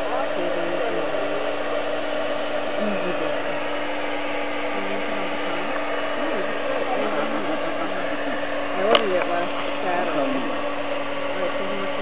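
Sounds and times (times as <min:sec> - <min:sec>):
electric air pump whirring: 0:00.0 - 0:12.0.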